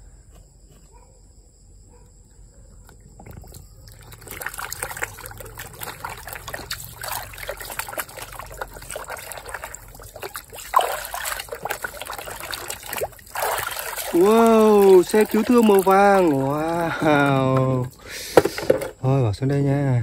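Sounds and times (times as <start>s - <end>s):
water splashing in a tub: 2.8s - 19.1s.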